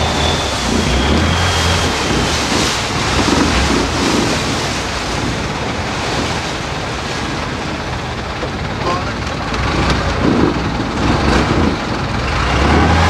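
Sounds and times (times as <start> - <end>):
wind buffeting the microphone: 0.0 - 12.2
rushing water: 0.0 - 13.0.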